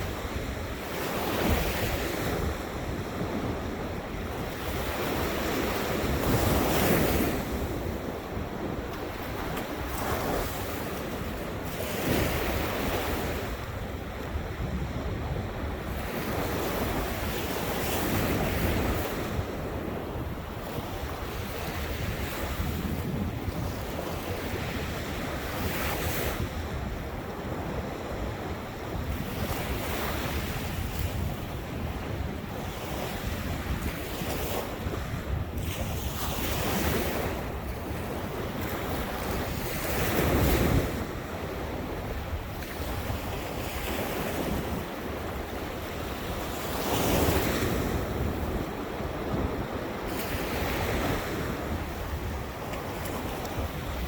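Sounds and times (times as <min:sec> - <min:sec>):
ocean waves breaking on shore: 0:00.0 - 0:54.0
wind buffeting microphone: 0:00.0 - 0:54.0.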